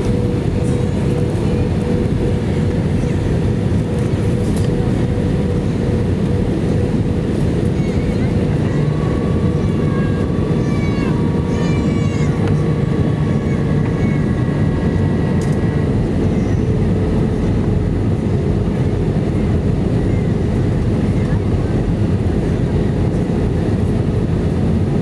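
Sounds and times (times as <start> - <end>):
airplane cabin engine roar: 0.0 - 25.0.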